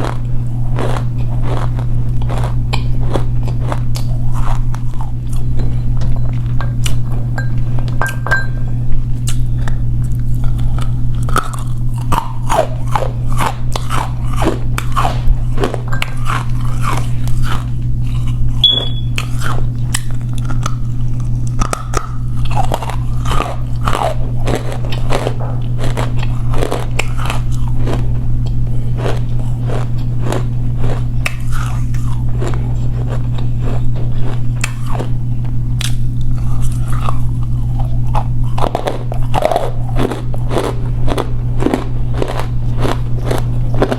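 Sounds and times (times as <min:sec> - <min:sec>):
chewing crunches: 0:00.0 - 0:08.5, 0:09.1 - 0:43.9
low steady hum: 0:00.0 - 0:43.9.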